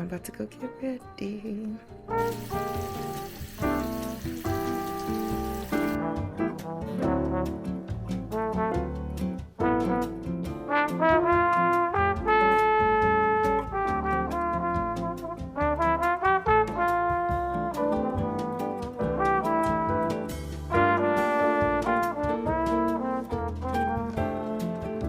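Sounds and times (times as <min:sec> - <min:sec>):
brass-led background music: 0:01.8 - 0:25.0.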